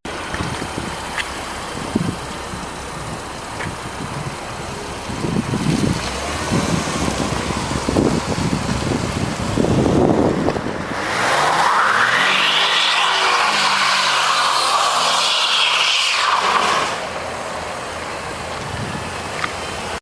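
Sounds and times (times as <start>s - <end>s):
car engine revving: 0.3s - 17.2s.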